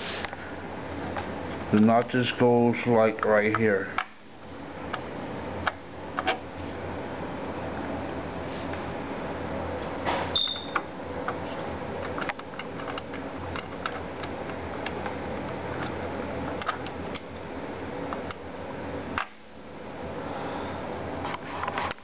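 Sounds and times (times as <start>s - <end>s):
fan hum: 0.0s - 22.0s.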